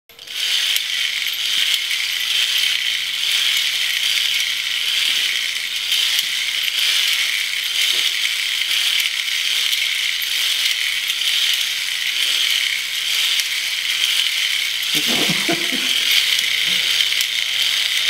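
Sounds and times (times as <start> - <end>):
plastic spinner toys whirring and rattling: 0.1 - 18.0.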